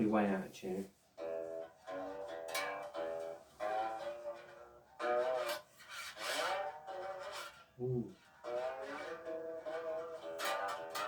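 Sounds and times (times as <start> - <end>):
single string plucked: 1.2 - 11.0.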